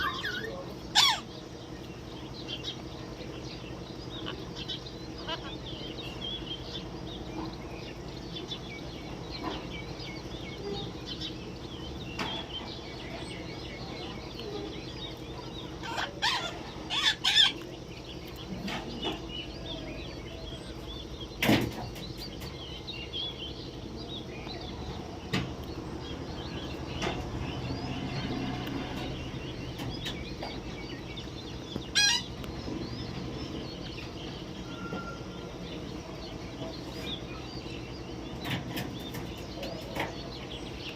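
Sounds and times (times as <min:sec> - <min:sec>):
faint chirping: 0:00.0 - 0:40.9
steady low hum: 0:00.0 - 0:40.9.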